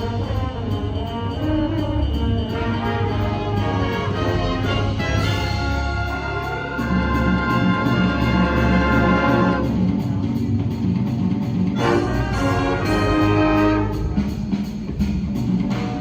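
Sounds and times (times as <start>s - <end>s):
wind ensemble playing chords: 0.0s - 10.2s, 11.8s - 14.7s.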